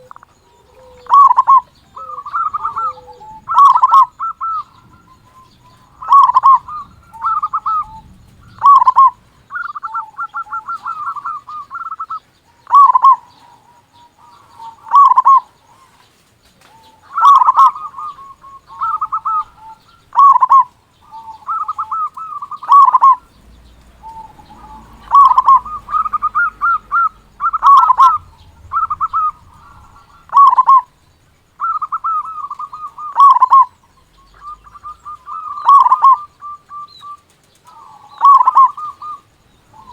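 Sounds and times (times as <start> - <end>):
dove cooing and trilling: 0.0 - 39.9.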